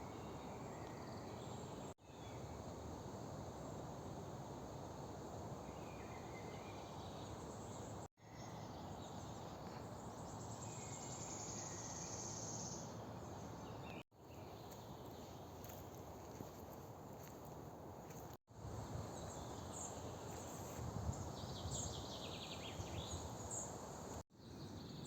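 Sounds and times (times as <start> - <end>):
faint birdsong chirps: 0.0 - 2.7, 5.6 - 25.0
wind rustling tree leaves: 1.5 - 25.0.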